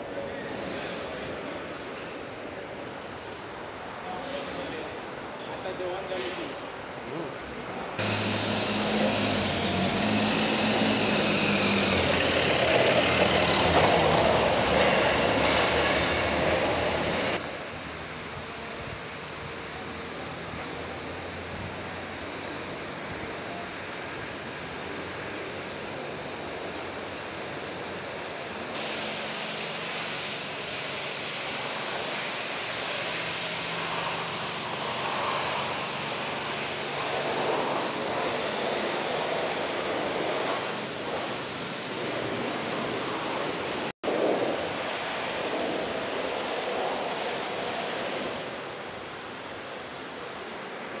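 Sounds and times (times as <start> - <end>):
rushing industrial workshop noise: 0.0 - 49.2.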